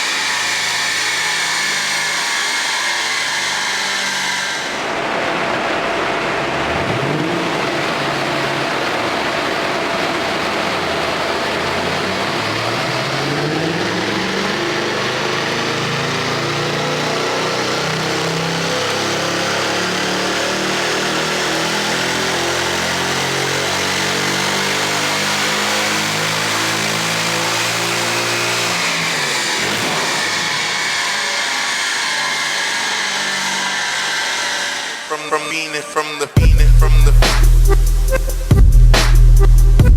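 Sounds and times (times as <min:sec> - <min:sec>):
car engine revving at full throttle: 0:00.0 - 0:35.3.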